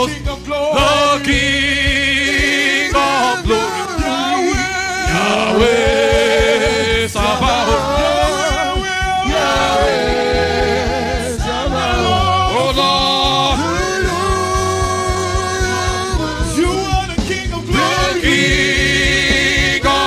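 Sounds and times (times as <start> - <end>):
gospel music with singing: 0.0 - 20.0.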